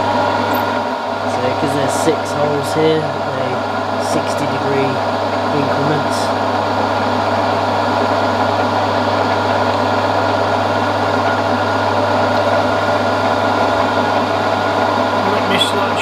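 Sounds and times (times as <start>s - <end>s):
milling machine motor hum: 0.0s - 16.0s.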